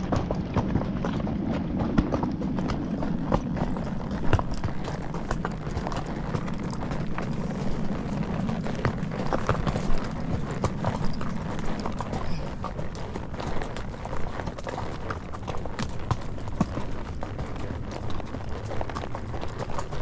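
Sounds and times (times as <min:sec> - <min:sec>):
horse hooves clopping: 0:00.0 - 0:20.0
low rumble: 0:00.0 - 0:20.0.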